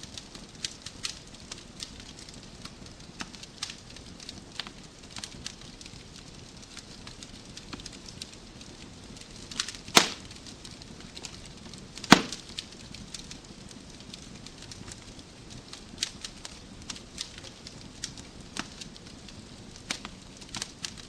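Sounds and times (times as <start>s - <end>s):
wood fire crackling: 0.0s - 21.0s
loud sharp pops of fire: 0.1s - 21.0s.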